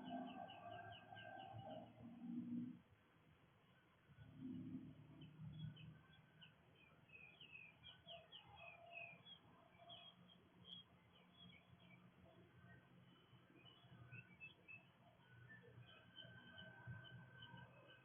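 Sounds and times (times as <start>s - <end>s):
songbird chirps: 0.0s - 18.0s.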